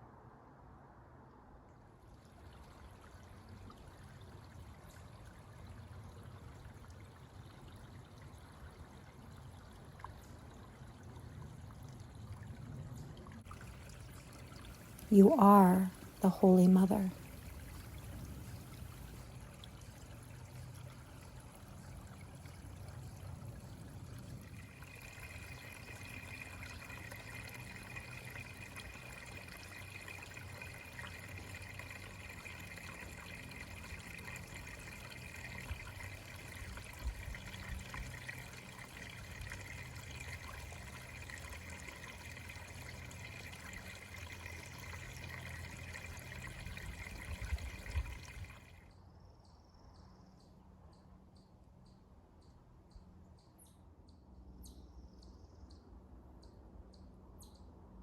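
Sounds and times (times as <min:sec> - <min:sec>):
trickle of running water: 0:01.7 - 0:49.0.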